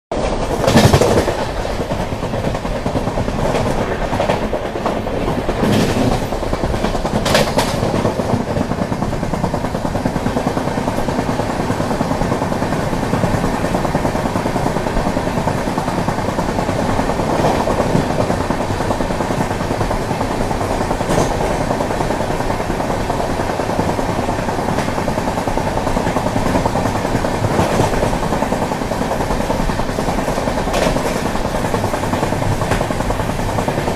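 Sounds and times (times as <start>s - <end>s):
train coaches rumbling and rattling: 0.1s - 33.9s
wheels clicking over rail joints: 0.1s - 33.9s.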